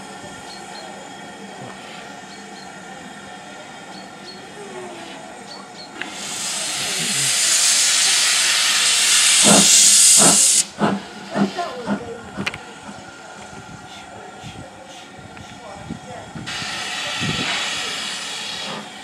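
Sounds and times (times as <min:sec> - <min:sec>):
loud steam hiss: 0:00.0 - 0:19.0
steam locomotive exhaust chuffs: 0:00.0 - 0:19.0.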